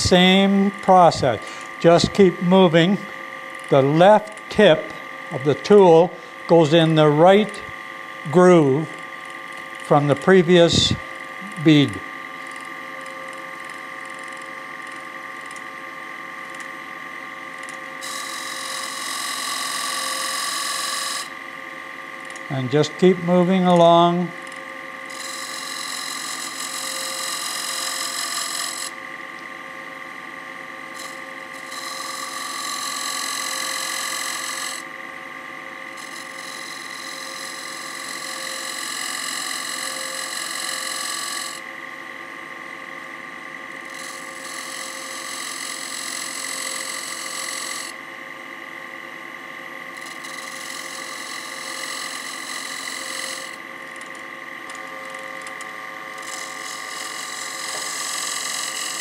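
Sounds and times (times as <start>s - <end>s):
tool scraping spinning wood: 0.0s - 15.7s, 17.6s - 21.4s, 22.2s - 29.0s, 30.9s - 35.0s, 35.8s - 41.7s, 43.7s - 48.0s, 49.9s - 59.0s
wood lathe motor whine: 0.0s - 59.0s.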